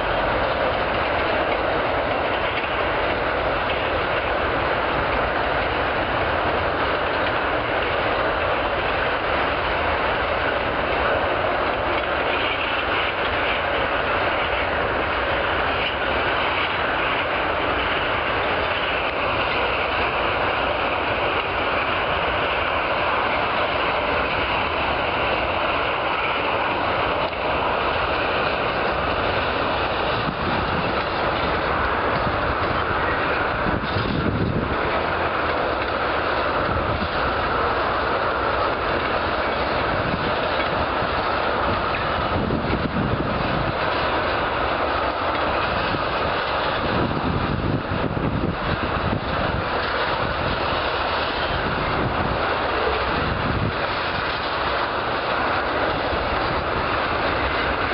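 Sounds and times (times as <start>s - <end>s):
freight train wheels rumbling: 0.0s - 57.9s
wheels clacking over rail joints: 0.0s - 57.9s.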